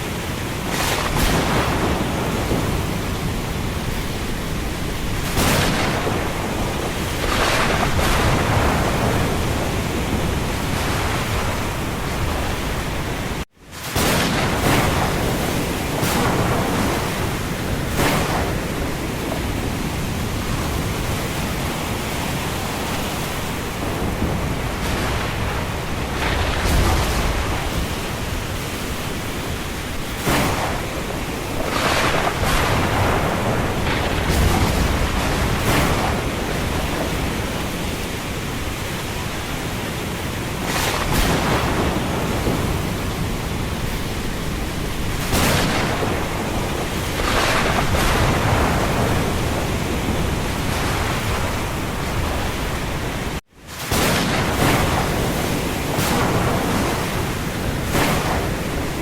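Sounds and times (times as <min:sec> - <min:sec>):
rain: 0:00.0 - 0:59.0
wind gusts: 0:00.0 - 0:59.0.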